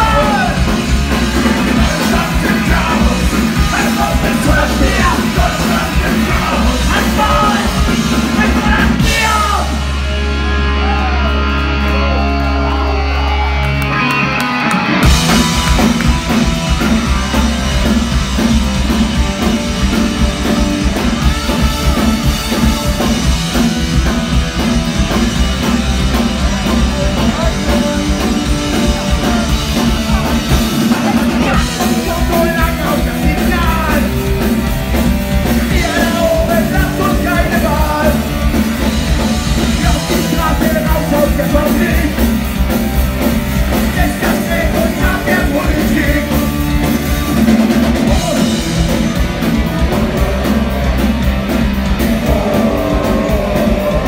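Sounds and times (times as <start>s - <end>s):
punk band playing live: 0.0s - 54.0s.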